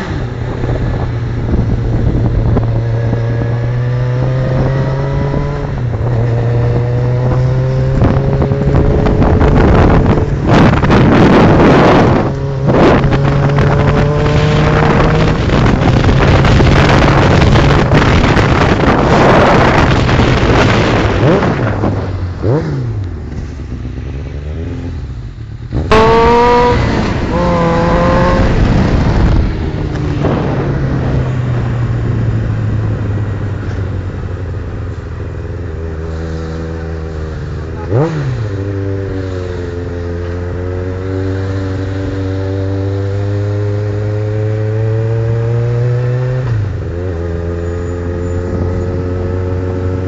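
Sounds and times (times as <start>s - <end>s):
vehicle engine revving: 0.0s - 34.3s, 35.0s - 50.0s.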